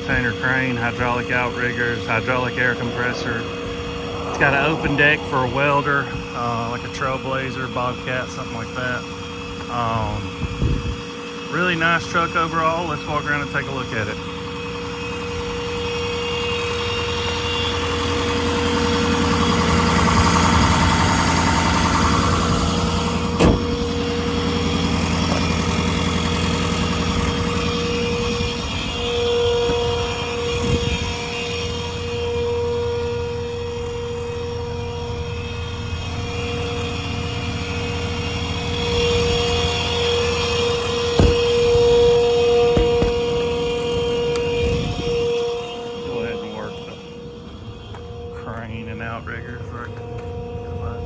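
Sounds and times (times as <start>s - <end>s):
diesel engine idling: 0.0s - 51.0s
steady whine: 0.0s - 51.0s.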